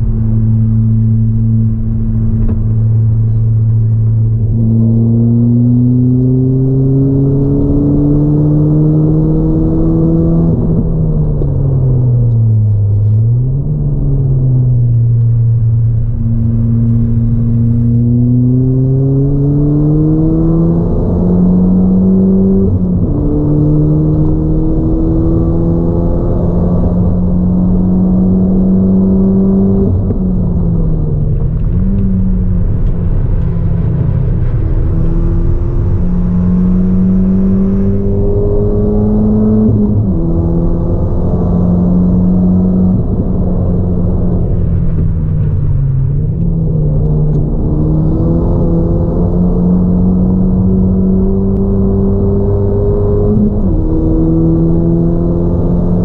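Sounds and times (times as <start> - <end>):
car engine accelerating: 0.0 - 56.0
low rumble: 0.0 - 56.0.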